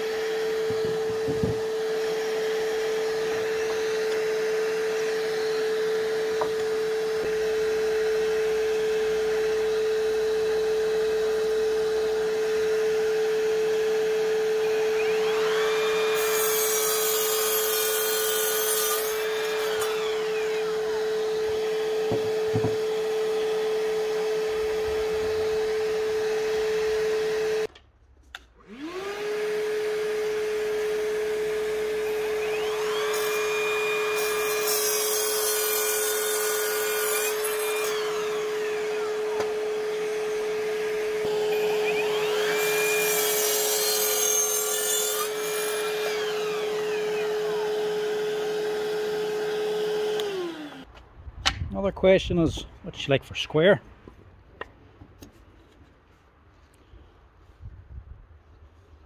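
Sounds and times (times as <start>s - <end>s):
miter saw cutting timber: 0.0s - 27.7s, 28.6s - 50.9s
vacuum humming: 0.0s - 27.7s, 28.6s - 34.8s, 36.8s - 44.6s, 45.2s - 50.9s.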